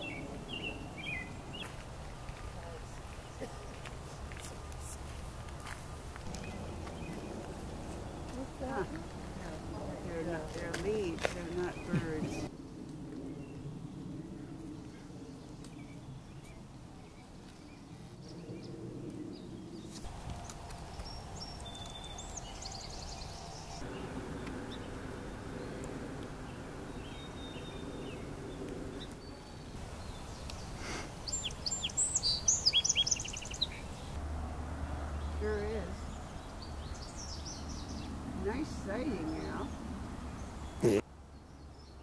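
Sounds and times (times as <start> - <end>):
outdoor background: 0.0 - 42.0.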